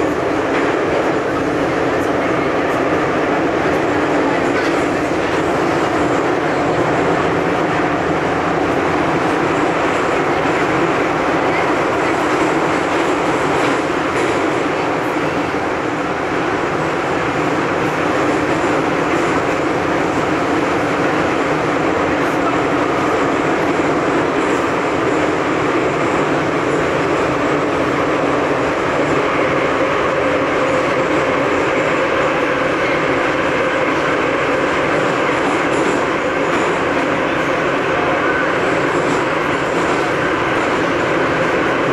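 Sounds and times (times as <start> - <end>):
metro train running in tunnel: 0.0 - 41.9.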